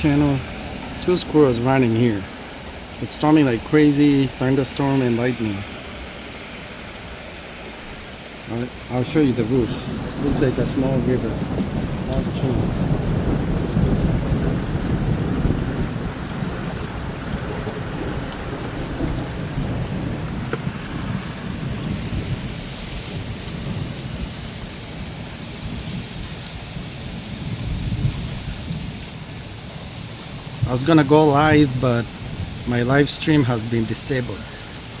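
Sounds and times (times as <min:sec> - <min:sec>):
thunder rumbling: 0:00.0 - 0:05.8, 0:08.5 - 0:35.0
heavy rain pouring: 0:00.0 - 0:35.0.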